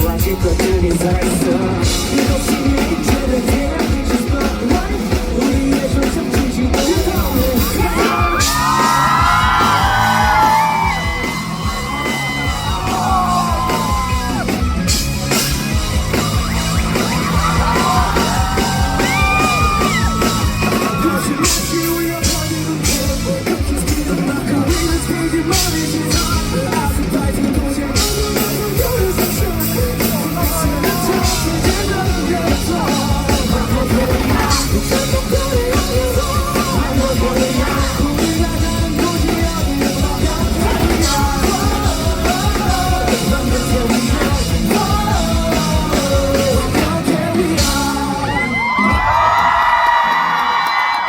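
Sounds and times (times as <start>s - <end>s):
person singing and yelling: 0.0s - 15.0s, 16.1s - 50.3s
bass: 0.0s - 51.0s
drum kit: 0.0s - 51.0s
electric guitars: 0.0s - 51.0s.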